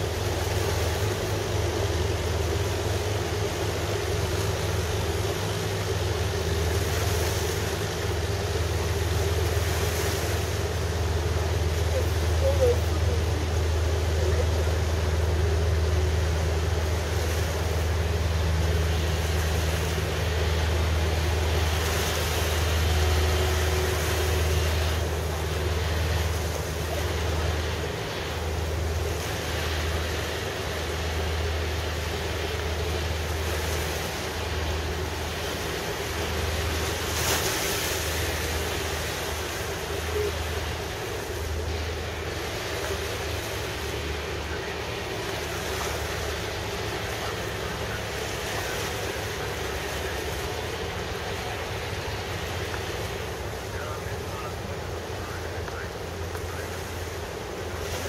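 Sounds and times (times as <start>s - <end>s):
harbour water washing: 0.0s - 58.0s
ship engine droning: 0.0s - 58.0s
wind: 0.0s - 58.0s.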